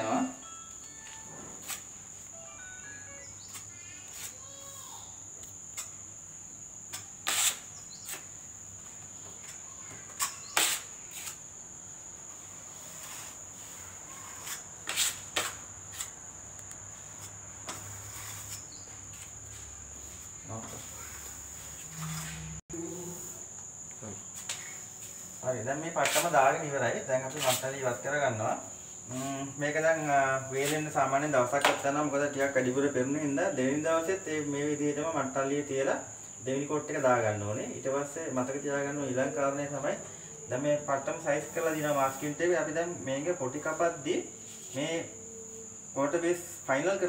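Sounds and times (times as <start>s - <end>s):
high-pitched insect trill: 0.0s - 47.0s.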